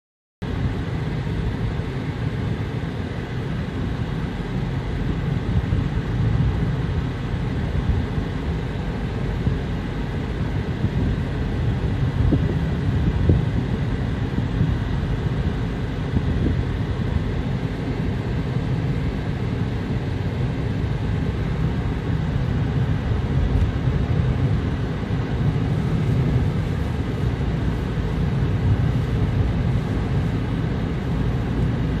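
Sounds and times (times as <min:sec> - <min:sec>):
road and wind noise in car: 0:00.4 - 0:32.0.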